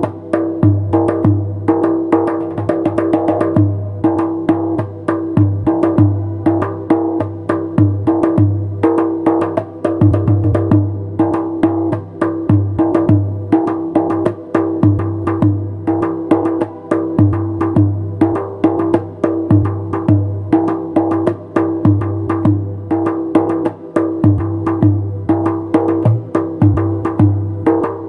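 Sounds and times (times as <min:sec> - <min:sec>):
goblet drum rhythm: 0:00.0 - 0:28.0.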